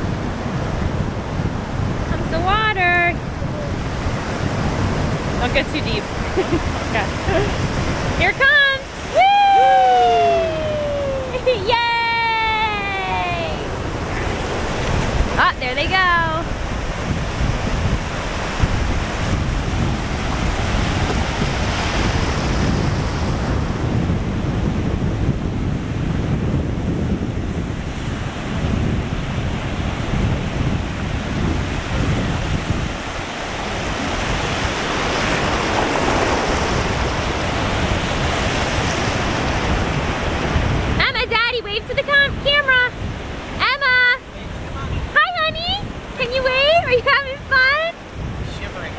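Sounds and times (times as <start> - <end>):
surf washing on beach: 0.0 - 48.9
wind buffeting microphone: 0.0 - 48.9.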